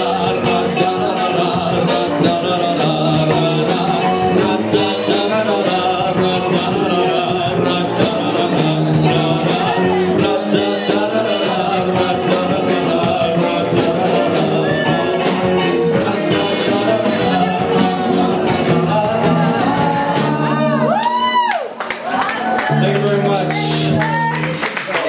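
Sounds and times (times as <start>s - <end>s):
man singing: 0.0s - 21.0s
electric guitar: 0.0s - 24.8s
drums: 0.0s - 25.0s.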